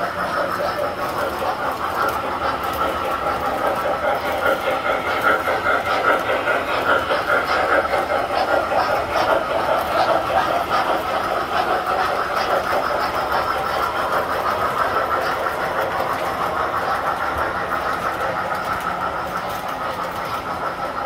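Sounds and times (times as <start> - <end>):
model trains clattering on metal track: 0.0 - 21.0.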